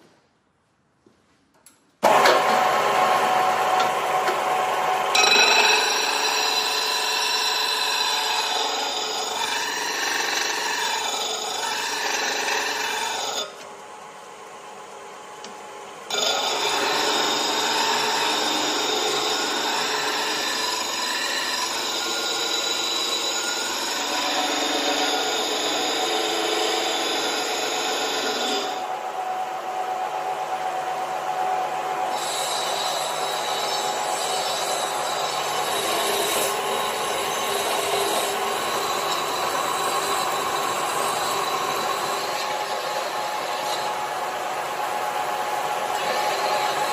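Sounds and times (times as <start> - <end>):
power tool working steel: 2.0 - 13.6, 16.1 - 29.0, 31.8 - 46.9.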